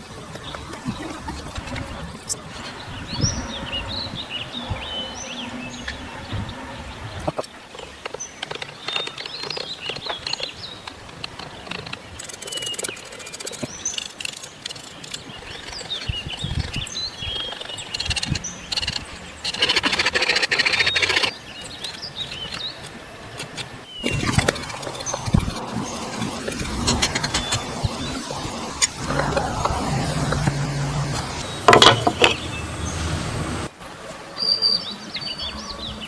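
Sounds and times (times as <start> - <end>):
small birds chirping: 0.0 - 29.7, 30.4 - 33.7.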